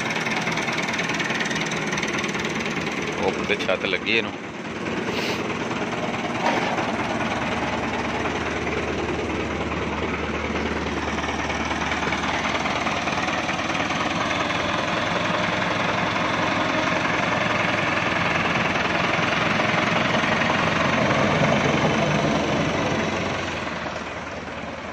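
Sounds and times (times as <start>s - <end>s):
tractor diesel engine idling: 0.0s - 24.9s.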